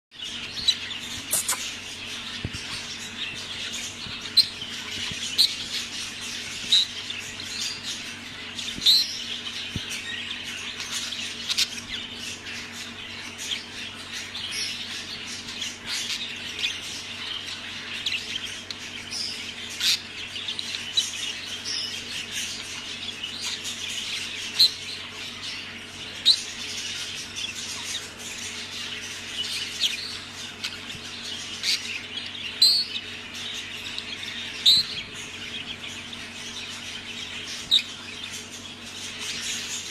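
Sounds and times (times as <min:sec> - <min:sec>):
budgerigars chattering: 0:00.2 - 0:39.9.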